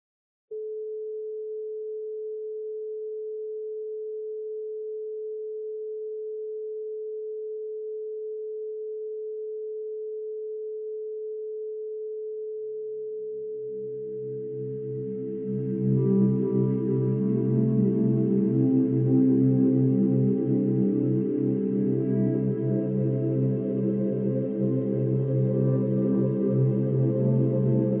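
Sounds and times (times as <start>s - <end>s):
steady sine tone: 0.5s - 28.0s.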